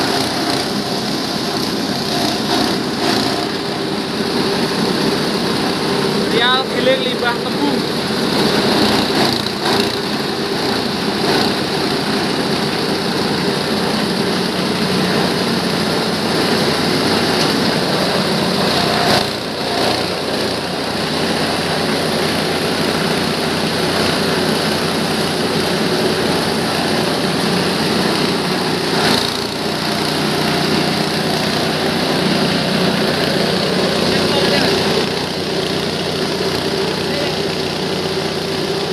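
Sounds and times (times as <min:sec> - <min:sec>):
grass chopper running: 0:00.0 - 0:38.9.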